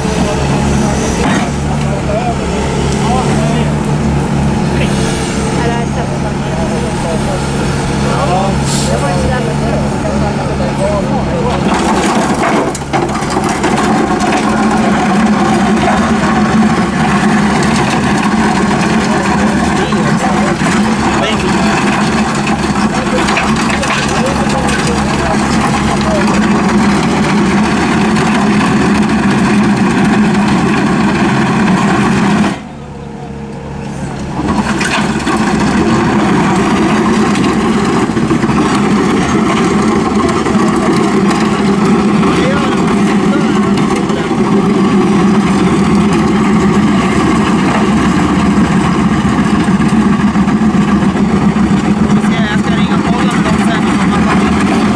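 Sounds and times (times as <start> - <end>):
diesel engine running under load: 0.0 - 54.9
trencher cutting through soil: 6.7 - 32.7, 34.4 - 54.9.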